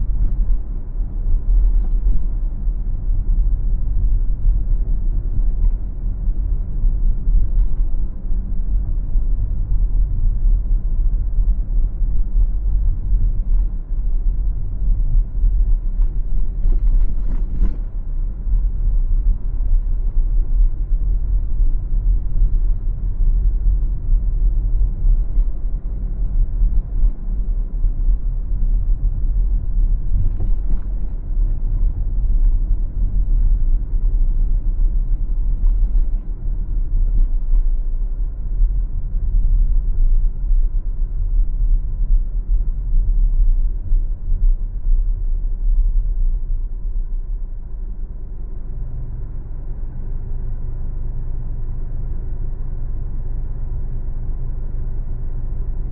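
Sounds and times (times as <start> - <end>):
car road and tyre noise: 0.0 - 55.9.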